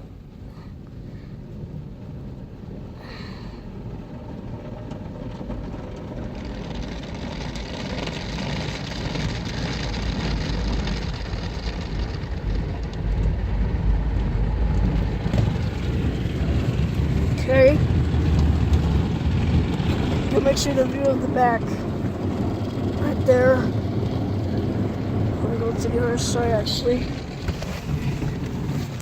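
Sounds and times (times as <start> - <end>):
car wash machinery rumble: 0.0 - 29.0.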